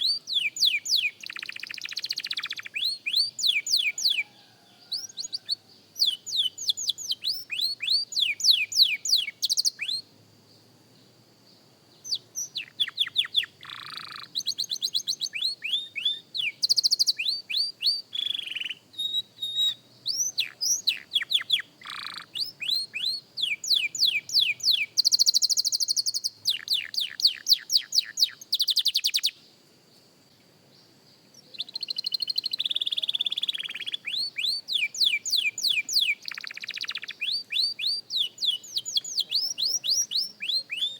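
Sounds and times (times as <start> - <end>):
canary singing trills: 0.0 - 10.1, 12.0 - 29.4, 31.2 - 40.9.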